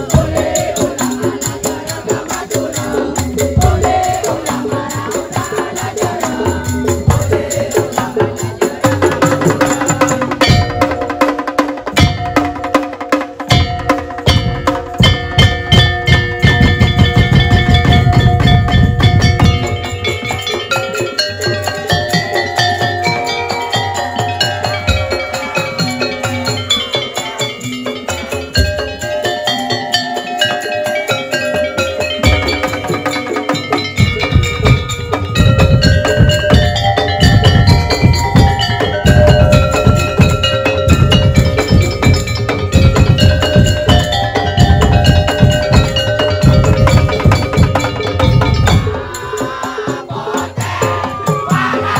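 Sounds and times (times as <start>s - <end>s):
fast dense drumming: 0.0s - 51.9s
ringing pitched percussion melody: 0.0s - 51.9s.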